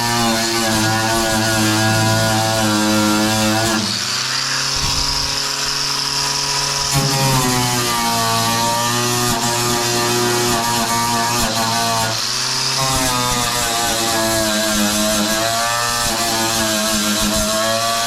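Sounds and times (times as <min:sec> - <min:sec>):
power tool motor running: 0:00.0 - 0:18.0.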